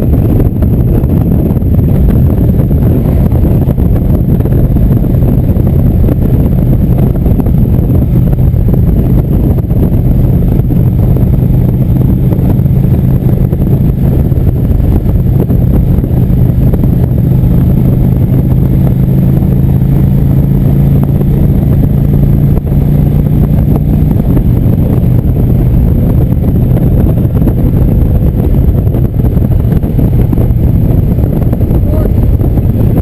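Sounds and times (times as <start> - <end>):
motorcycle engine cruising: 0.0 - 33.0
wind rumble on microphone: 0.0 - 33.0.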